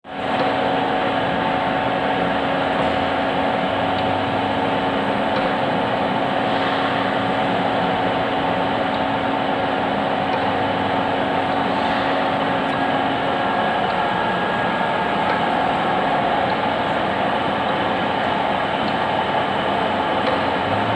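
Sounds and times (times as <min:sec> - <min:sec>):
lathe motor humming: 0:00.1 - 0:20.9.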